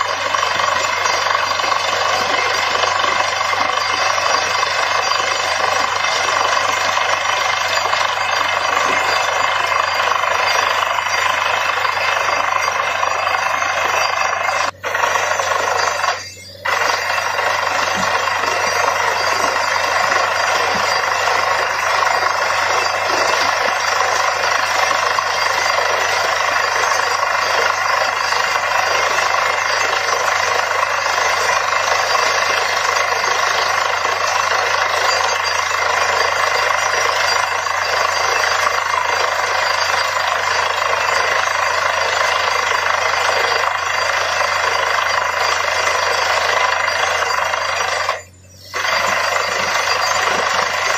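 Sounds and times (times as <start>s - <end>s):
drilling rig drilling: 0.0s - 50.9s.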